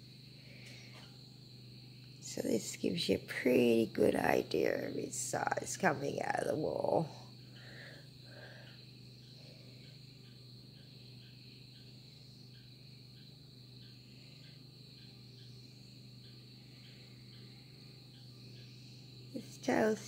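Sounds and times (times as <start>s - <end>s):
crickets chirping: 0.0s - 20.0s
low steady hum: 0.0s - 20.0s.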